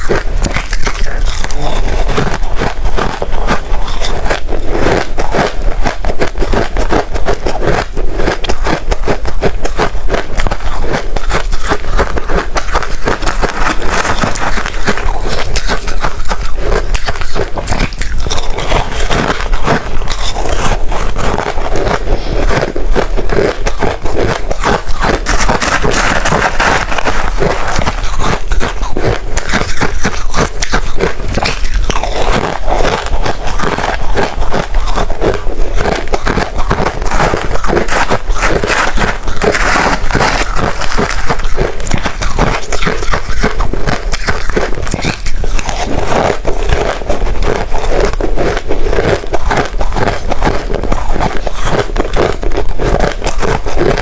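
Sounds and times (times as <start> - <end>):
ice crunching being chewed: 0.0 - 54.0.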